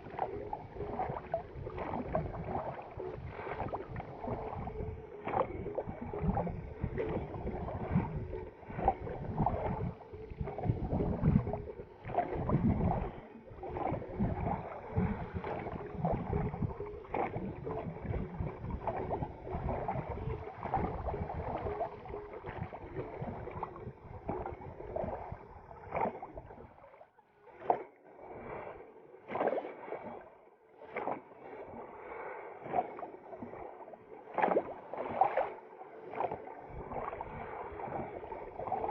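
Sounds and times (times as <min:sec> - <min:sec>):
rowing strokes splashing water: 0:00.0 - 0:26.9, 0:27.5 - 0:38.9.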